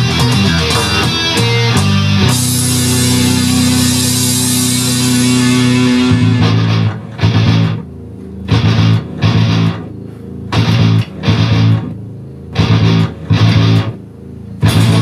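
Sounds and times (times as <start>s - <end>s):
heavy metal music: 0.0s - 9.9s, 10.5s - 14.0s, 14.6s - 15.0s
electric bass riff: 0.0s - 15.0s.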